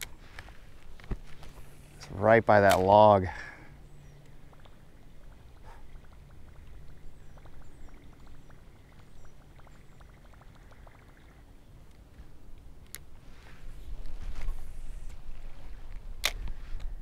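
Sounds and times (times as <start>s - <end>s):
stream water: 0.0s - 16.4s.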